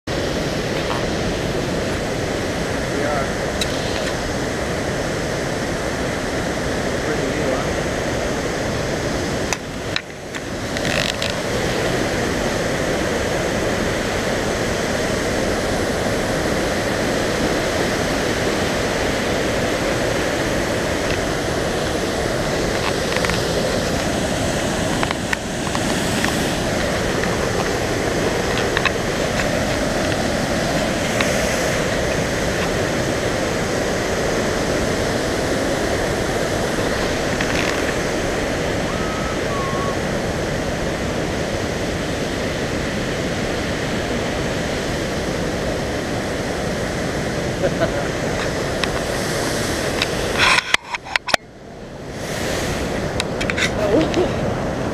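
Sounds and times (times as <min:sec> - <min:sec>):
waterfall and rapids rushing: 0:00.1 - 0:54.9.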